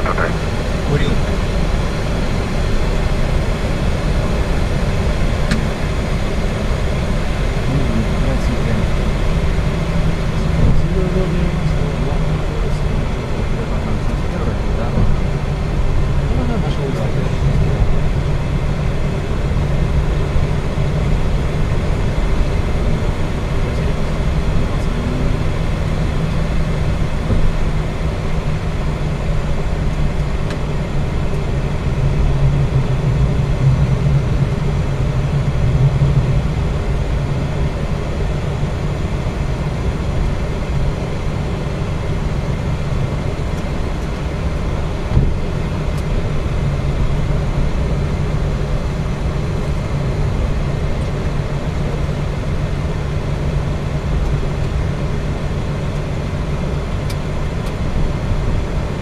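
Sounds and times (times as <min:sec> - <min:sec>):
cockpit fan hum: 0:00.0 - 0:59.0
jet engines idling: 0:00.0 - 0:59.0.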